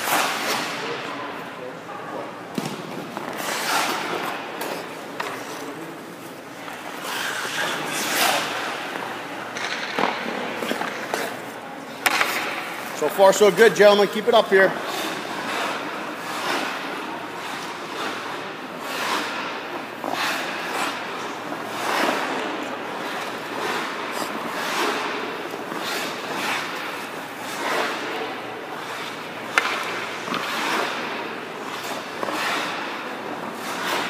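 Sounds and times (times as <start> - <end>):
skate blades scraping ice: 0.0 - 1.5, 2.6 - 34.0.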